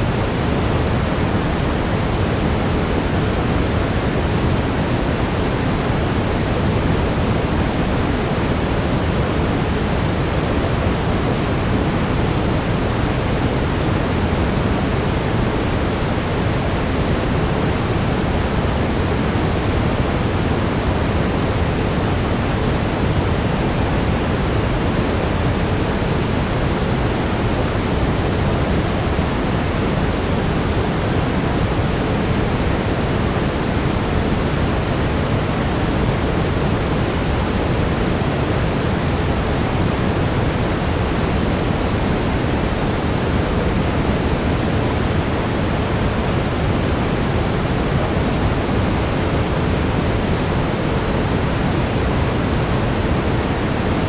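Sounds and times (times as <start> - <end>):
brown noise: 0.0 - 54.0.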